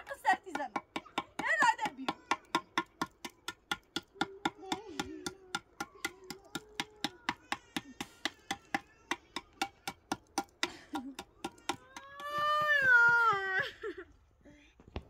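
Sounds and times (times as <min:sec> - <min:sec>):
fast rhythmic knocking: 0:00.0 - 0:13.6.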